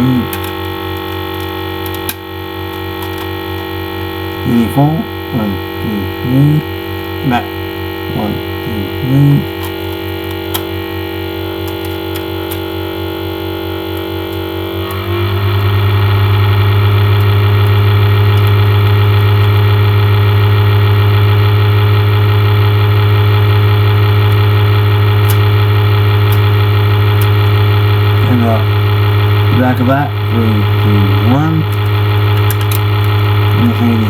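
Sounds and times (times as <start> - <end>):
low hum with overtones: 0.0 - 34.0.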